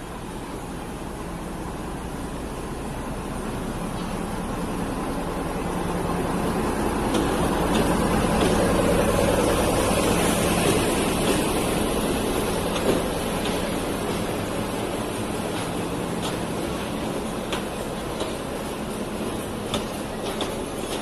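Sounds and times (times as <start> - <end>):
diesel locomotive engine running: 0.0 - 21.0
train wheels rumbling: 0.0 - 21.0.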